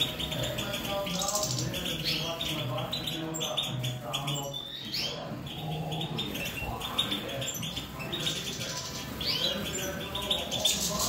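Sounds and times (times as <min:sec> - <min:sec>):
finches twittering: 0:00.0 - 0:11.0.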